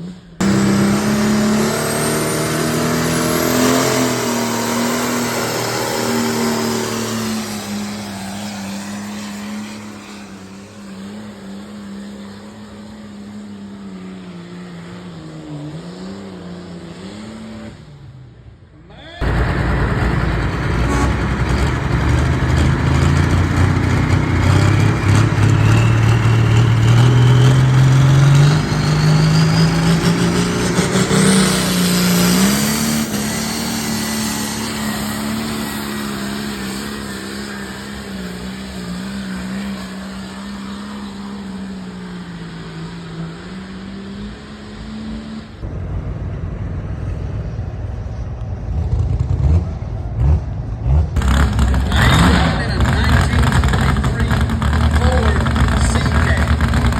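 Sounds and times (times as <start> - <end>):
engine at full throttle under load: 0.0 - 18.6, 19.2 - 56.9.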